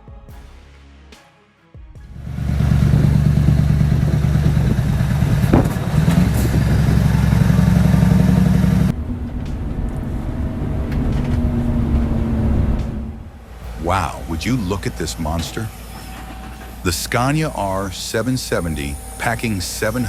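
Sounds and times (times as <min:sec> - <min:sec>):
heavy engine running: 0:02.1 - 0:20.0.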